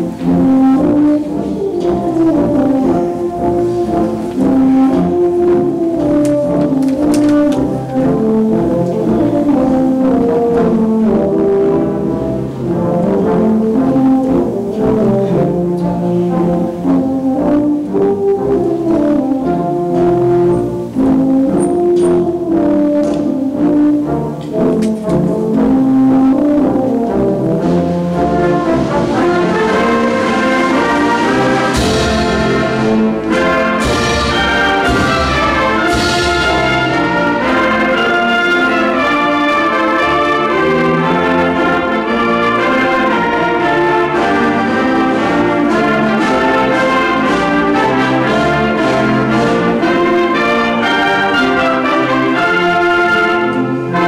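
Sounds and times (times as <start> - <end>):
concert band playing: 0.0 - 54.0.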